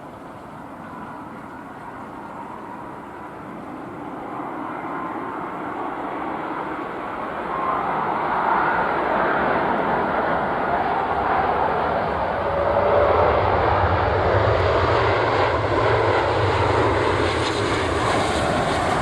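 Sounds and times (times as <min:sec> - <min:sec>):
jet engines whooshing rumble: 0:00.0 - 0:19.0.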